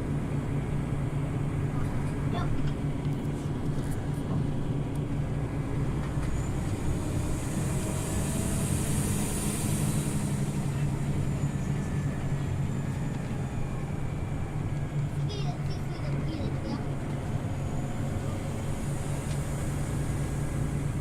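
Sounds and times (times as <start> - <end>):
bus engine drone: 0.0 - 21.0
road noise: 0.0 - 21.0.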